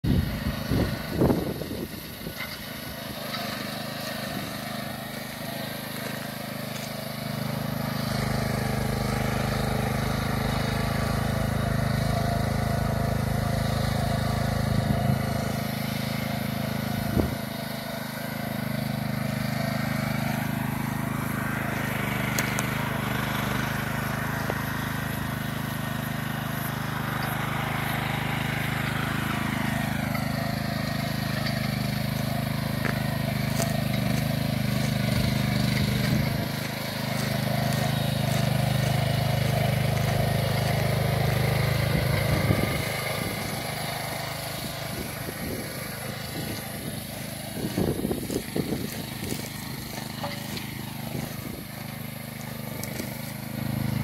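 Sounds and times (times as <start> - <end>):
small petrol engine running: 0.0 - 54.0.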